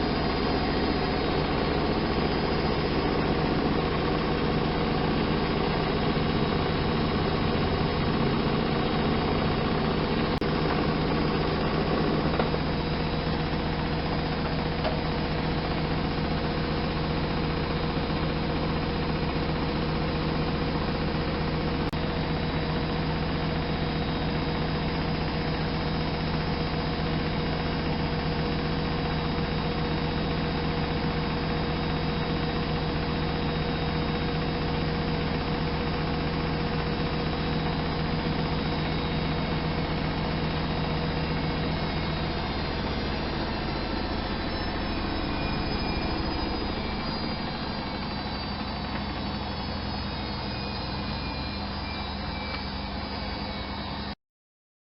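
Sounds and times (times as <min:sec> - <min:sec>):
washing machine humming: 0:00.0 - 0:54.2.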